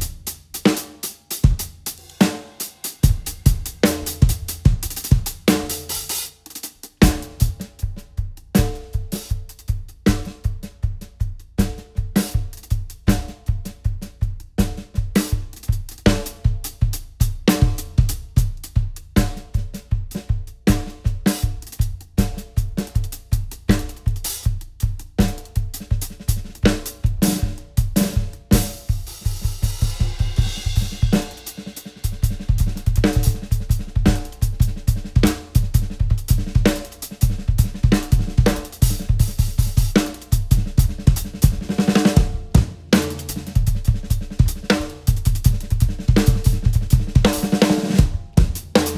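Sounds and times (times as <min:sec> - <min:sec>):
drum kit playing: 0:00.0 - 0:48.9.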